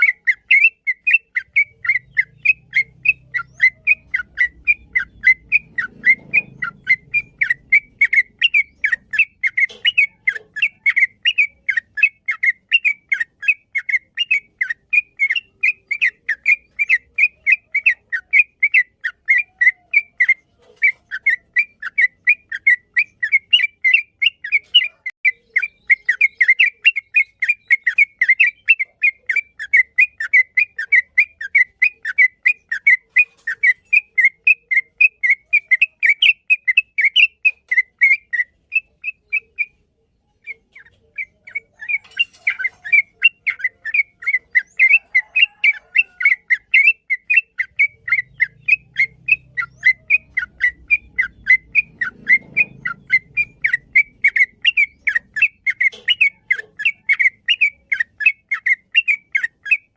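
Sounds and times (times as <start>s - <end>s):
bird singing rapid chirps: 0.0s - 59.9s.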